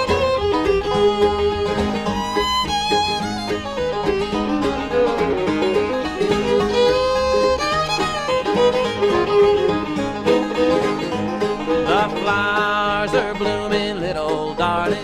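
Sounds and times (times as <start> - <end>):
banjo: 0.0 - 15.0
bass: 0.0 - 15.0
fiddle melody: 0.0 - 15.0
guitar: 0.0 - 15.0.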